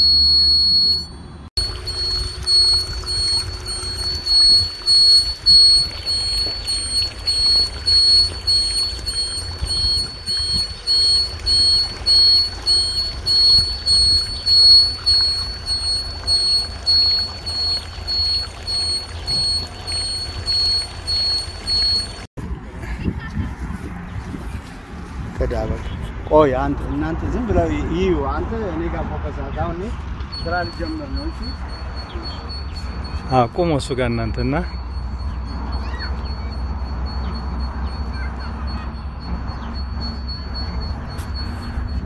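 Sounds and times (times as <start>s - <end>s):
high-pitched electronic beeps: 0.0s - 22.3s, 30.3s - 42.0s.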